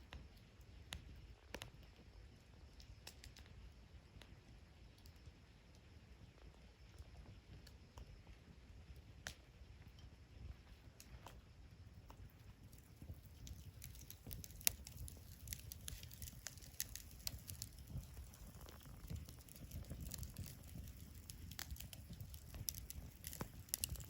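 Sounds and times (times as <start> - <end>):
faint low rumble: 0.0 - 24.0
wood fire crackling and popping: 0.0 - 24.0.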